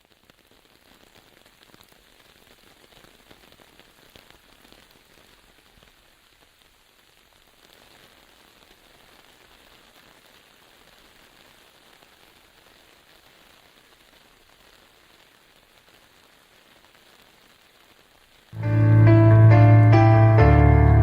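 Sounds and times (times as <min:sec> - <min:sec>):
light rain pattering: 0:00.0 - 0:19.9.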